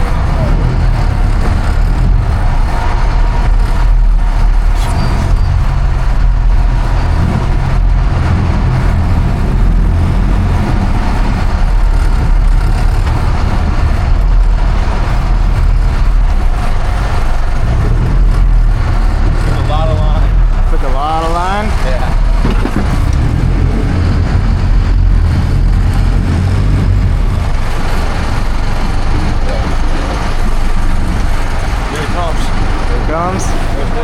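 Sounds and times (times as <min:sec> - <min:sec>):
boat engines rumbling: 0:00.0 - 0:34.0
water wash: 0:00.0 - 0:34.0
wind noise: 0:00.0 - 0:34.0.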